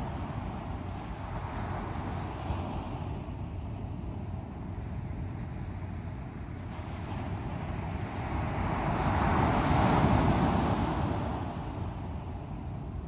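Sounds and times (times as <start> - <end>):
sea waves breaking on shore: 0.0 - 13.0.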